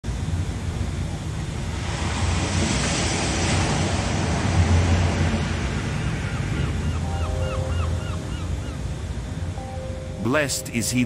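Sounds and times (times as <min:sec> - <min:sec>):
waves washing: 0:01.5 - 0:11.0.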